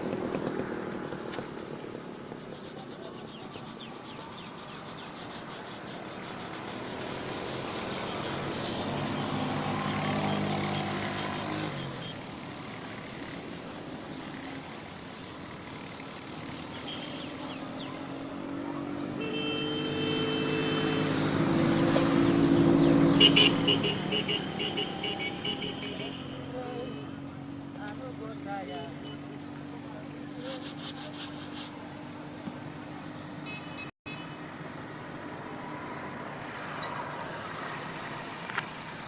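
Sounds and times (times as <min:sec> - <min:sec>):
motor vehicles passing: 0:00.0 - 0:39.0.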